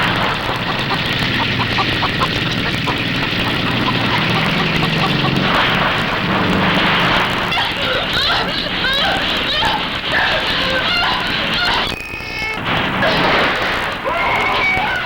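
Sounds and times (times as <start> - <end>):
loud mechanical drone: 0.0 - 14.1.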